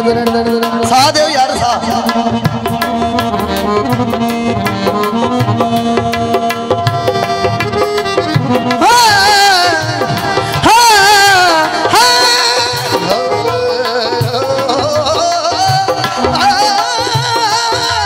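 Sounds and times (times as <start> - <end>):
keyboard chords: 0.0 - 18.0
fast hand drum strokes: 0.2 - 18.0.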